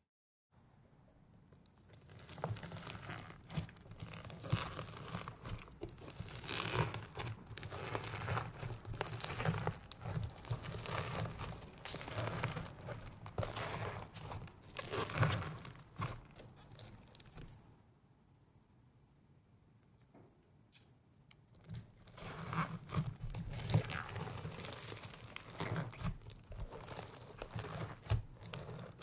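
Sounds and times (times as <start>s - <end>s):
crunchy slime crackling: 1.6s - 17.6s, 21.5s - 29.0s.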